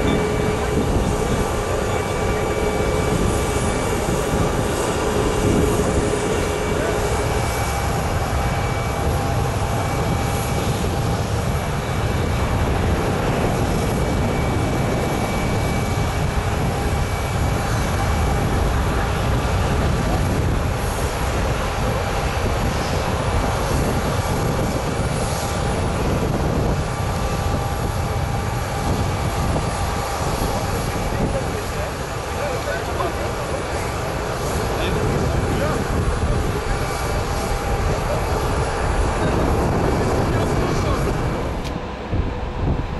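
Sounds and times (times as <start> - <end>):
jet engines rumbling with whine: 0.0 - 42.9.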